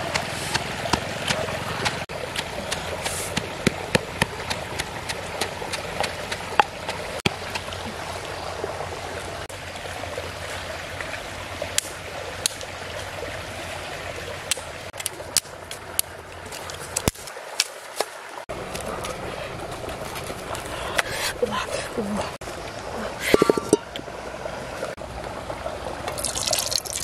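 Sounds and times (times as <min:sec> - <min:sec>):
stream running over stones: 0:00.0 - 0:27.0.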